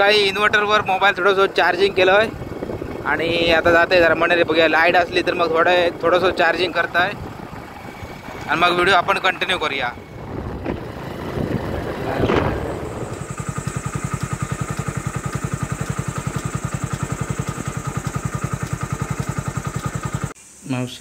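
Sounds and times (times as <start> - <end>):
motorcycle engine idling: 0.0 - 20.4
road and engine noise: 0.0 - 20.4.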